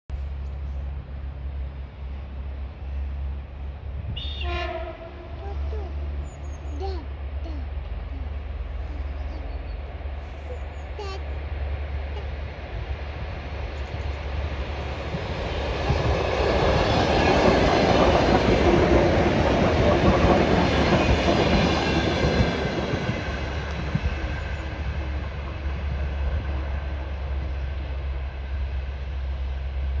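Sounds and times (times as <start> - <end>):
train rumbling and clattering: 0.1 - 30.0.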